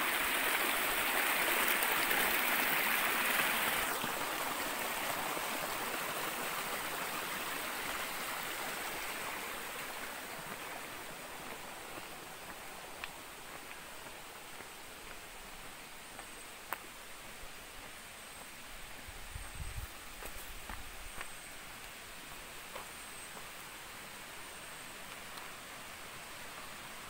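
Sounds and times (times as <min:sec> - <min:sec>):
stream of water splashing: 0:00.0 - 0:27.0.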